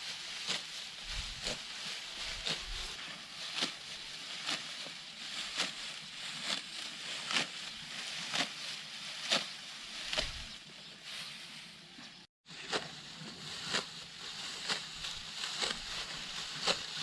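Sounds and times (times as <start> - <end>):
sickle cutting rice stalks: 0.0 - 17.0.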